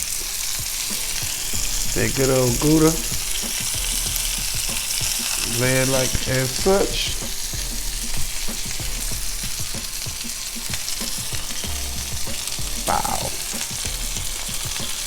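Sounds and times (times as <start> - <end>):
food sizzling in a hot pan: 0.0 - 15.0.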